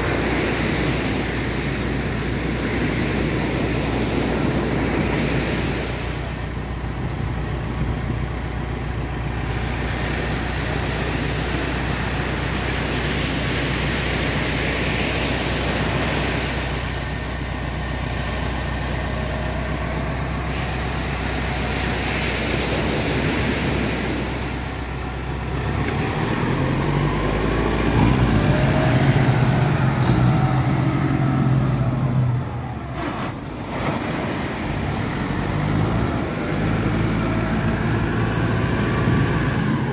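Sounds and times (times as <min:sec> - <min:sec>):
boat engine revving: 0:00.0 - 0:39.9
diesel tractor engine running: 0:00.0 - 0:39.9.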